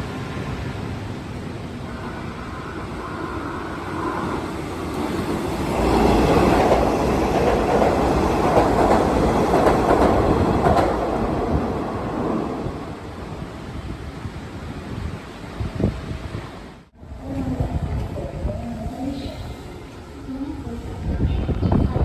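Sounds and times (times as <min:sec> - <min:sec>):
electric train running past: 0:00.0 - 0:22.0.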